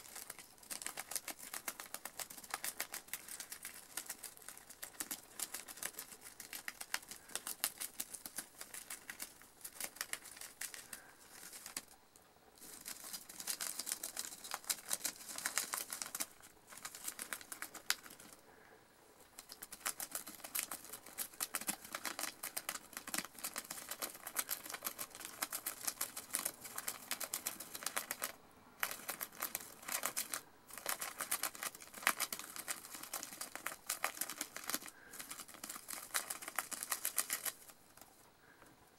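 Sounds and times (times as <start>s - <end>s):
gerbil gnawing paper: 0.0s - 12.0s, 12.6s - 18.4s, 19.2s - 38.2s.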